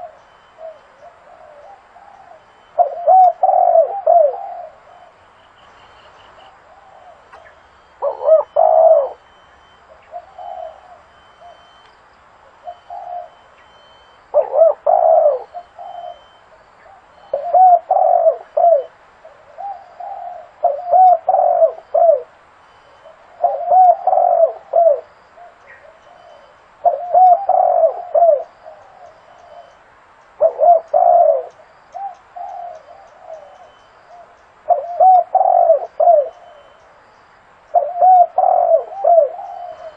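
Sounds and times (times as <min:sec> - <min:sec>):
dove cooing: 0:00.0 - 0:05.4, 0:06.0 - 0:11.8, 0:12.4 - 0:29.8, 0:30.4 - 0:37.0, 0:37.7 - 0:39.9.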